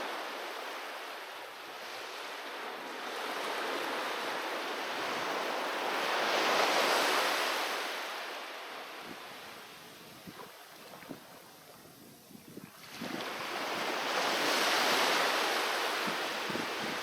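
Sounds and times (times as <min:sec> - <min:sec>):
sea waves breaking on beach: 0:00.0 - 0:11.5, 0:12.8 - 0:17.0.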